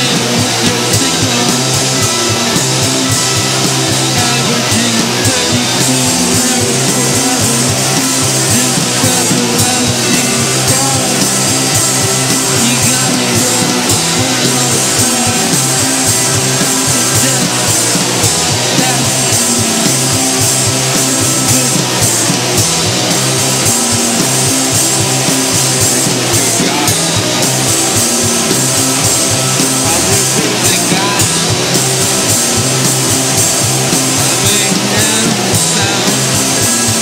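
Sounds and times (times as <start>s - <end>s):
loud rock music: 0.0s - 37.0s.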